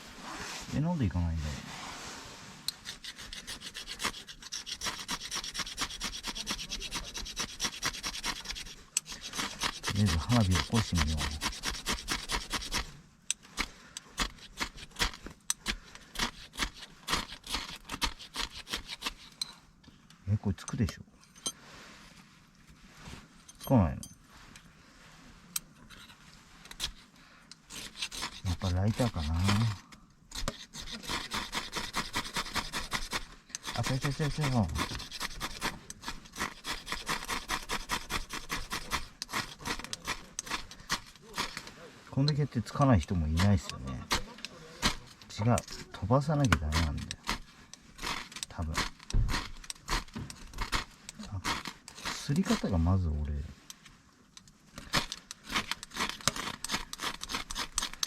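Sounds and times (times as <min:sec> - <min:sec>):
fire-starter rod scraped: 0:00.0 - 0:19.6, 0:25.4 - 0:58.0.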